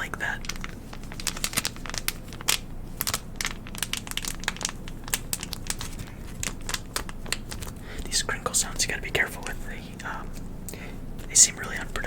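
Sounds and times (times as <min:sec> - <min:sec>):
wipe packet crinkling: 0:00.0 - 0:12.0.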